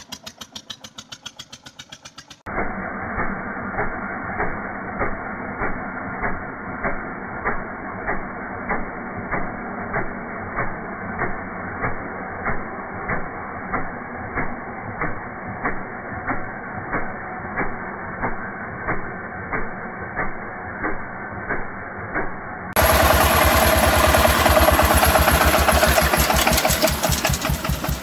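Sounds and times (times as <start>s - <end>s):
diesel engine clattering: 0.0s - 28.0s.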